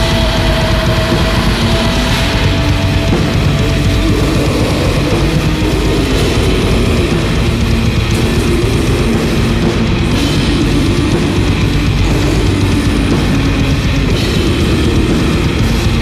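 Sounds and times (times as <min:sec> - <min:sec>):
heavy metal guitars and drums: 0:00.0 - 0:16.0.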